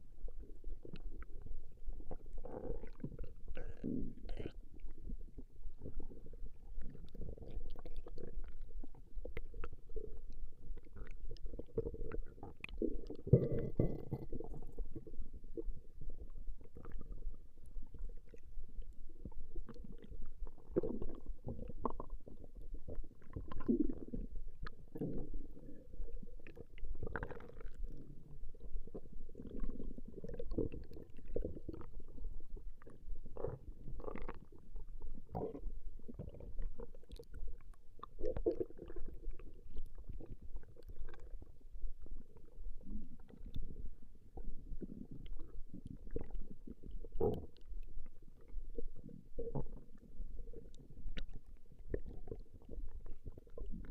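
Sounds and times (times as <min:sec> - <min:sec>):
stomach growling: 0:00.0 - 0:53.9.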